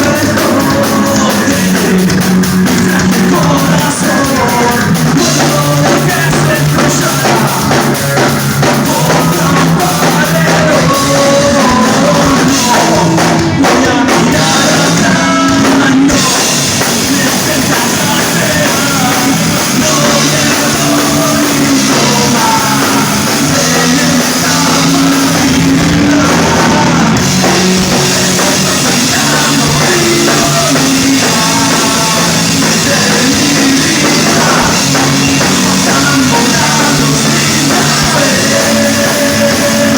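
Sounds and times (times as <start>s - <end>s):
drum kit: 0.0s - 39.9s
live rock band: 0.0s - 39.9s
person singing: 0.0s - 39.9s.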